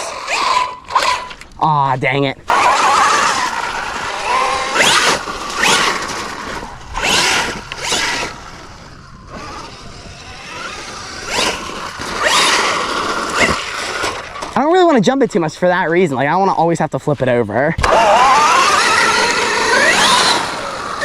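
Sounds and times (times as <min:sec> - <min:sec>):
electric motor whining: 0:00.0 - 0:01.6, 0:02.5 - 0:14.6, 0:17.8 - 0:21.0.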